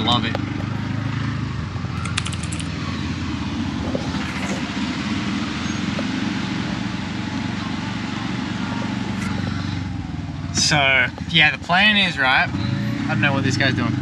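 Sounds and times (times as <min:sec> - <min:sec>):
auto rickshaw engine running: 0:00.0 - 0:14.0
road and wind noise: 0:00.0 - 0:14.0.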